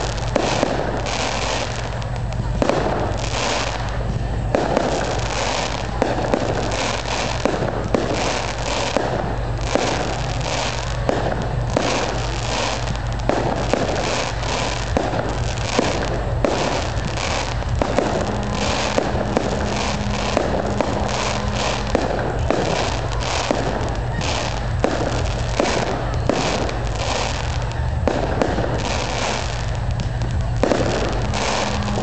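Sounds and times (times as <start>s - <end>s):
fireworks bangs: 0.0s - 32.0s
fireworks crackling: 0.0s - 32.0s.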